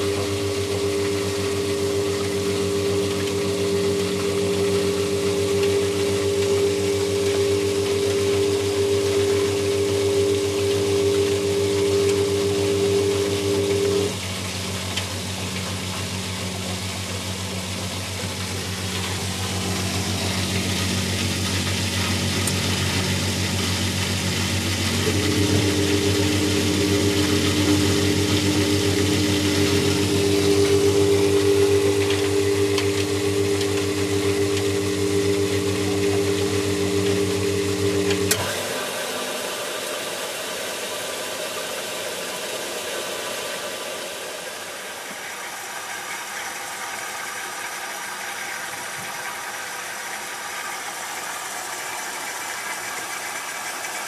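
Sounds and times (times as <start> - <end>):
motor whine: 0.0 - 54.0
washing machine running: 0.0 - 54.0.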